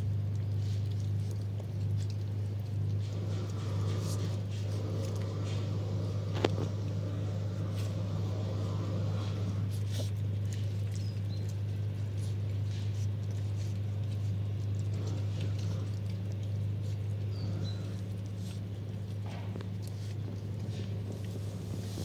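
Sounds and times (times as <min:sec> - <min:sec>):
puppies eating smacking sounds: 0:00.0 - 0:22.0
steady low hum: 0:00.0 - 0:22.0.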